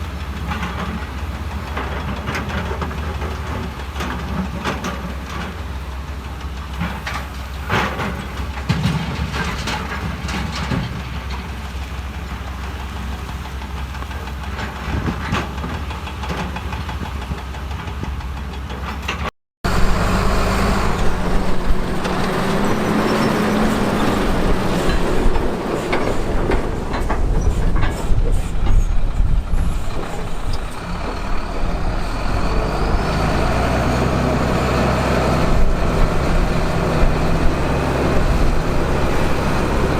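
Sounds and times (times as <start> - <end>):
heavy machine diesel engines: 0.0 - 39.9.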